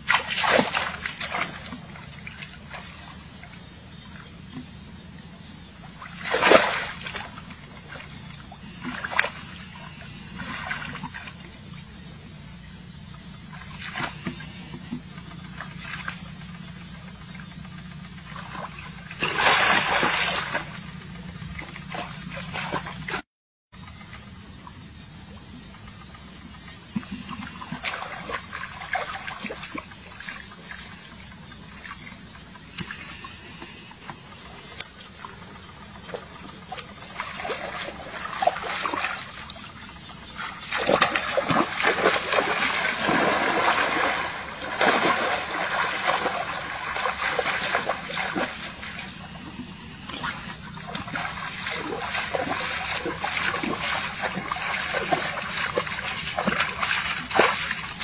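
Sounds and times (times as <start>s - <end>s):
muddy water splashing: 0.0s - 23.2s, 23.8s - 58.0s.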